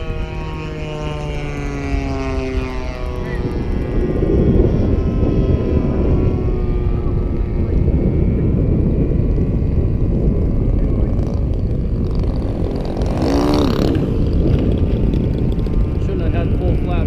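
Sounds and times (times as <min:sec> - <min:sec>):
heavy low rumble: 0:00.0 - 0:17.0
model plane engines droning: 0:00.0 - 0:17.0
plane passing close: 0:00.0 - 0:17.0.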